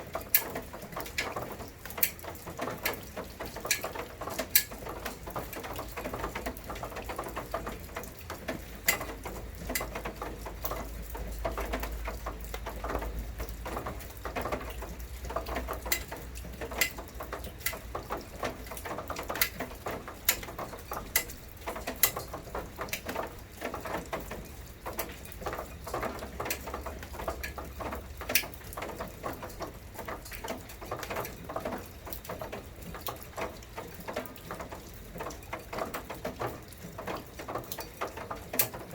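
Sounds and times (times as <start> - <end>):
rain pattering: 0.0 - 38.9
water drips: 0.0 - 38.9.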